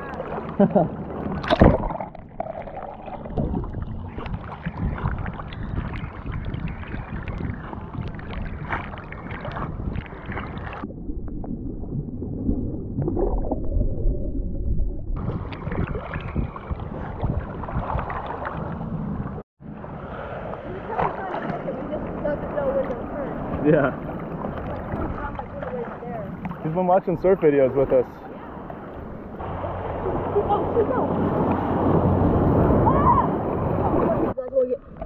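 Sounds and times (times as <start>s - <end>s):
sea water splashing: 0.0s - 35.0s.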